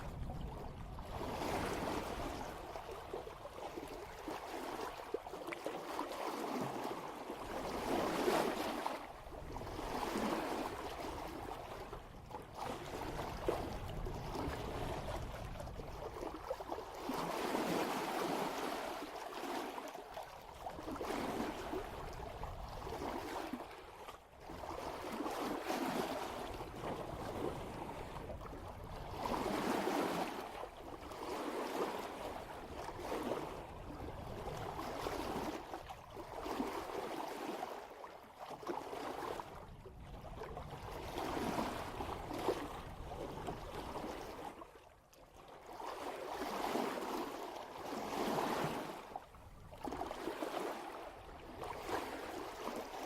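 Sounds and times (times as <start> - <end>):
water rushing past boat bow: 0.0 - 53.0.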